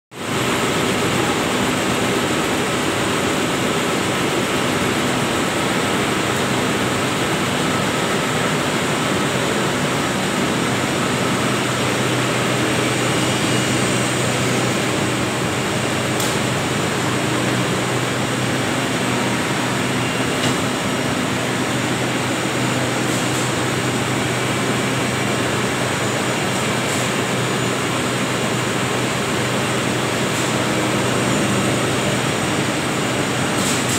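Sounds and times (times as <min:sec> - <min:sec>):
spinning mill machinery running: 0:00.2 - 0:33.9.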